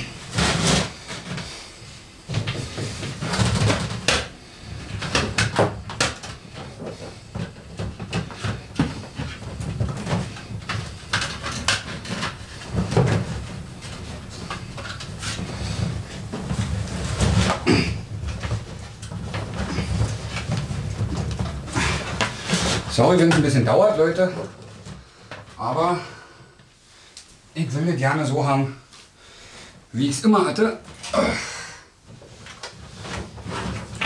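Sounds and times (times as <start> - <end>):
cables and equipment being handled: 0.0 - 25.8, 32.0 - 34.0.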